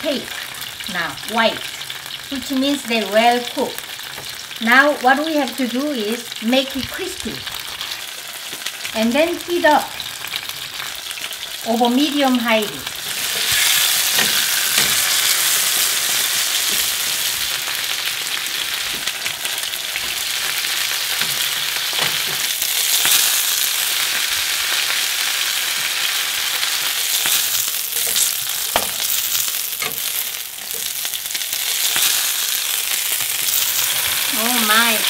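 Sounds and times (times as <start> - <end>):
fish sizzling in oil: 0.0 - 35.0.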